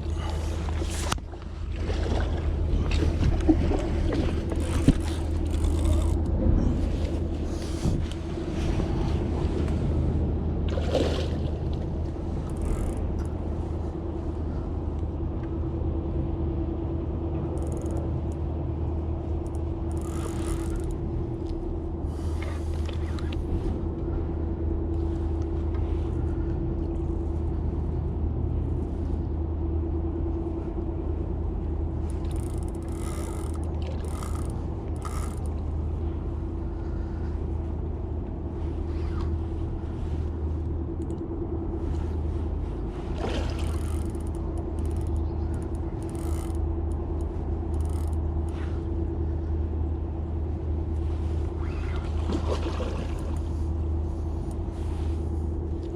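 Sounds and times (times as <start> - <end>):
boat motor running: 0.0 - 55.9.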